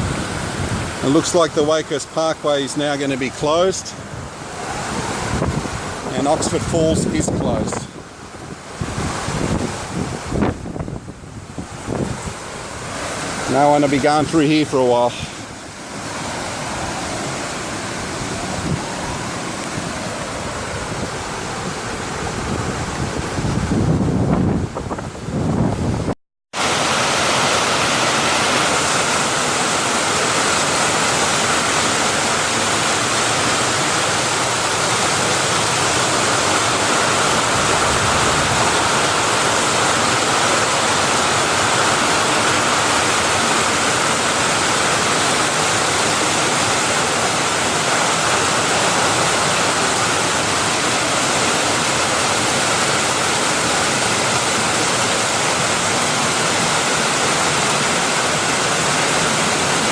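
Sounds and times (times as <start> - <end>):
water rushing through rapids: 0.0 - 59.9.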